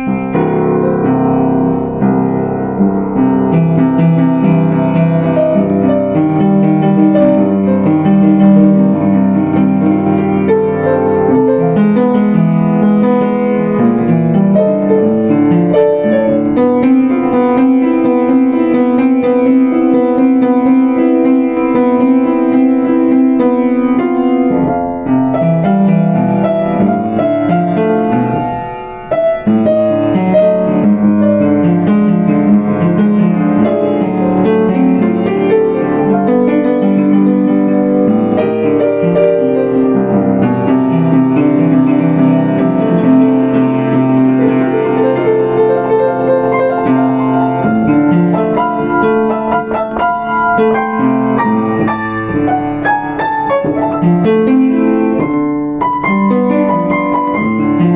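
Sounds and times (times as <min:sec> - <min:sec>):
solo piano: 0:00.0 - 0:57.9.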